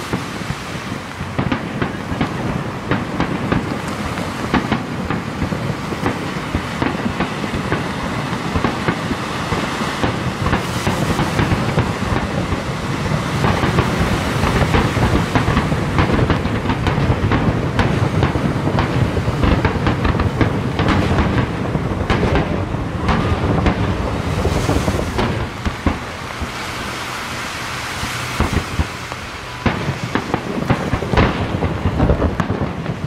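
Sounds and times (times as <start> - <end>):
continuous rumble: 0.0 - 33.0
fireworks bursting with sharp bangs: 0.0 - 33.0.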